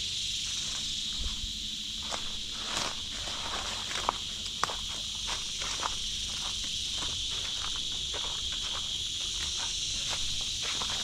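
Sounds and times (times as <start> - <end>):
high-pitched insect chorus: 0.0 - 11.0
footsteps crunching on dry leaves: 0.4 - 11.0.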